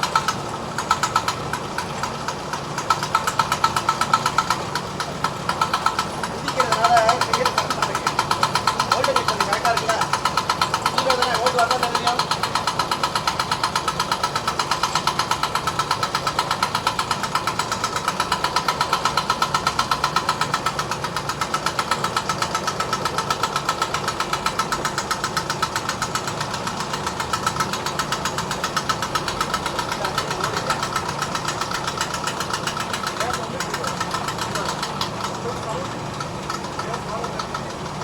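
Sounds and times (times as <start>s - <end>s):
machine running with fast pulsing: 0.0s - 38.0s.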